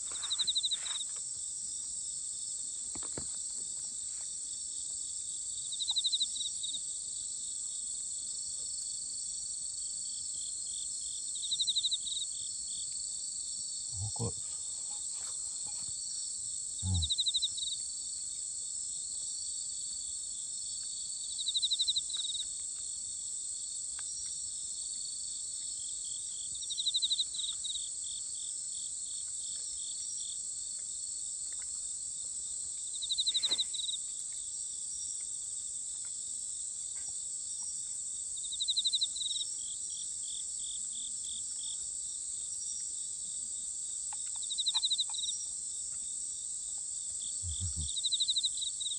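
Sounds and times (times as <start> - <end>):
cricket trilling and chirping: 0.0 - 48.9
crickets droning: 0.0 - 48.9.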